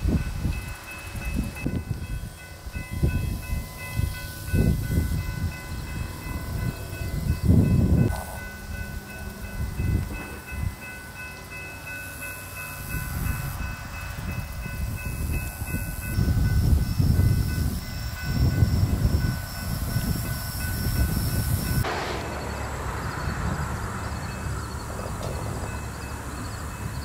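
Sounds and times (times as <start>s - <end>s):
wind gusting on microphone: 0.0s - 12.0s, 12.6s - 27.0s.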